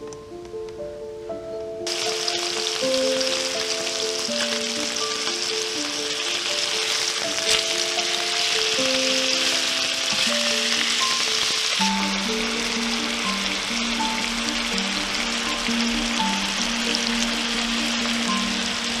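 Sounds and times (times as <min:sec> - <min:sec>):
gentle background music: 0:00.0 - 0:19.0
food sizzling in oil: 0:01.9 - 0:19.0.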